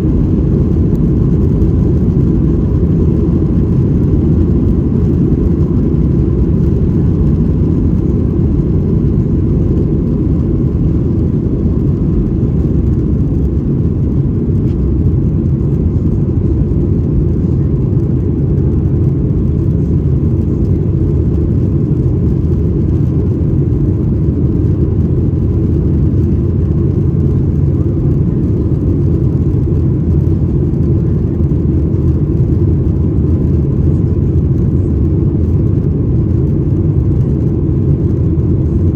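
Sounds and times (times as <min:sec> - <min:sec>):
aircraft cabin engine rumble: 0:00.0 - 0:38.9
faint steady hum: 0:00.0 - 0:38.9.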